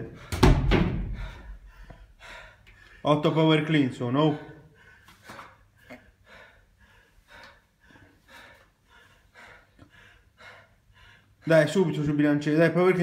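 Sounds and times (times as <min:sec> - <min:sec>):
person breathing heavily: 0:00.0 - 0:03.6, 0:04.2 - 0:11.9.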